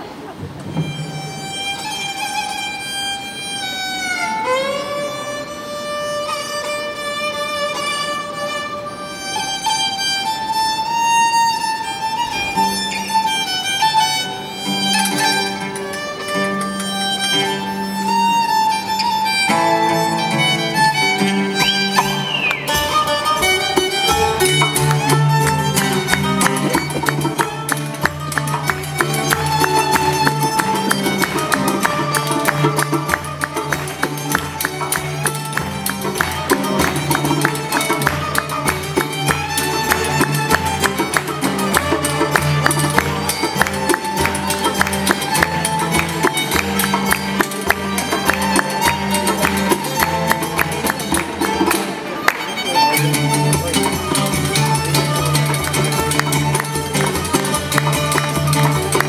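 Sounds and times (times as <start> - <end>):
plucked string instrument strumming: 0.0 - 59.0
violin folk tune: 0.0 - 59.0.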